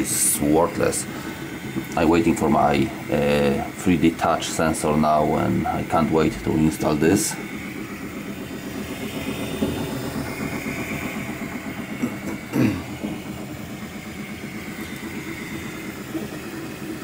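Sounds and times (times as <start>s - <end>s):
printer high whine: 0.0s - 17.0s
stepper motors buzzing: 0.0s - 17.0s.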